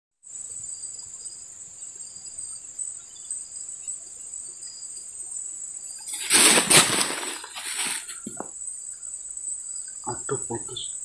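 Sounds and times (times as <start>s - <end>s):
insects chorus shrill drone: 0.3s - 11.0s.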